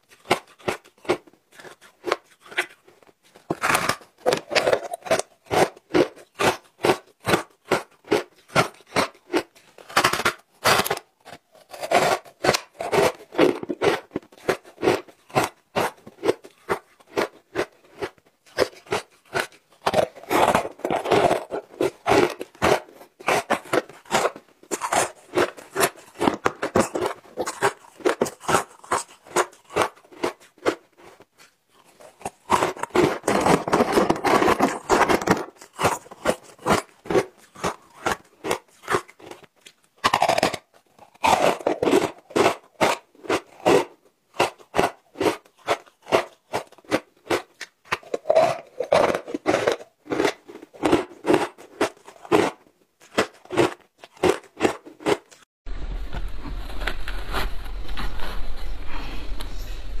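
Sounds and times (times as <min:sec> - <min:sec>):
crunching ice chewing: 0:00.0 - 0:55.5.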